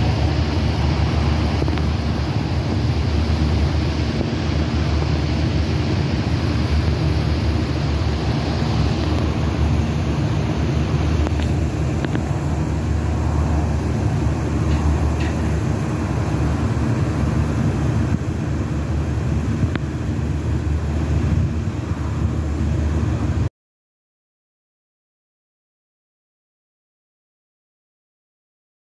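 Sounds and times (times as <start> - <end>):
idling car engines rumbling: 0.0 - 23.5.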